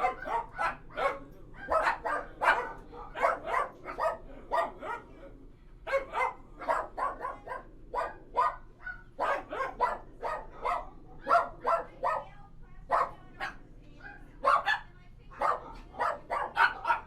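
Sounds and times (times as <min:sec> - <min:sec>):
dogs barking: 0:00.0 - 0:05.2, 0:05.9 - 0:17.0.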